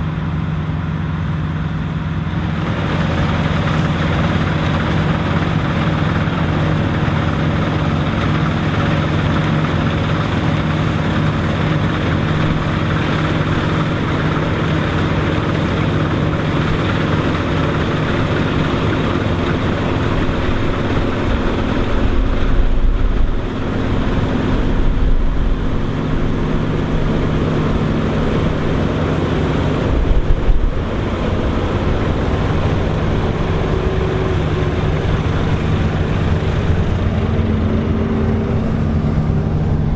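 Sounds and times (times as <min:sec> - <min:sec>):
combine harvester running: 0:00.0 - 0:39.9
wind buffeting microphone: 0:02.6 - 0:39.9.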